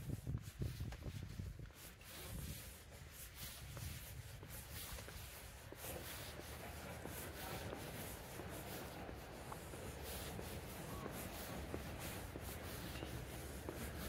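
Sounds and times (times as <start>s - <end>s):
light ticks and rubbing: 0.5s - 14.0s
faint steady background noise: 1.7s - 14.0s.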